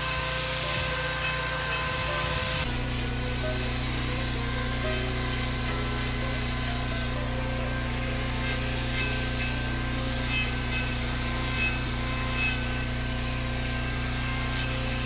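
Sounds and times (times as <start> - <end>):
electric grinder running: 0.0 - 15.0
grinder scraping hoof: 0.0 - 15.0.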